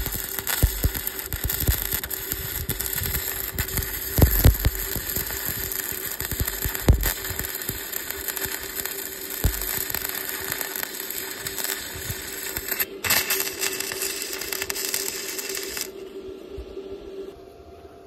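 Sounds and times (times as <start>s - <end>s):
welding arc crackling: 0.0s - 16.0s
low steady hum: 0.0s - 18.0s.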